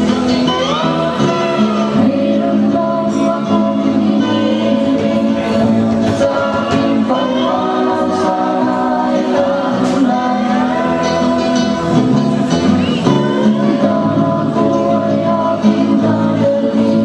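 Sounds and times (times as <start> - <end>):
song with singing: 0.0 - 17.0.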